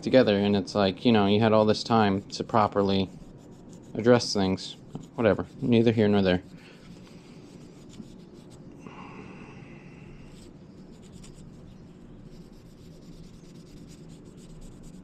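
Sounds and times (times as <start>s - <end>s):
steady low hum: 0.0s - 15.0s
hand rubbing and scratching: 0.2s - 8.7s, 10.2s - 15.0s.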